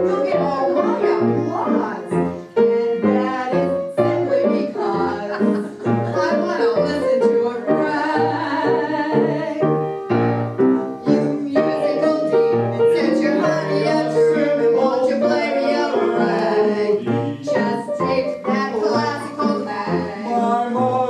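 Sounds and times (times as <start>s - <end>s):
grand piano accompaniment: 0.0s - 21.0s
person singing: 0.0s - 21.0s.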